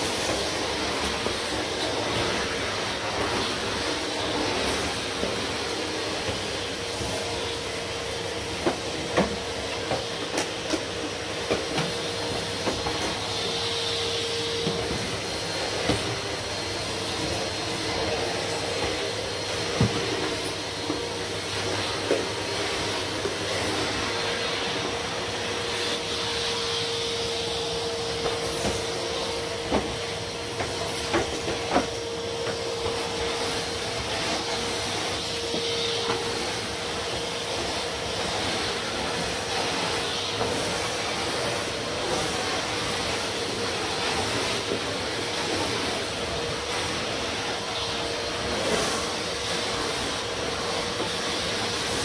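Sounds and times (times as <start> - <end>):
vacuum cleaner whine: 0.0 - 52.0
vacuum nozzle on carpet: 0.0 - 52.0.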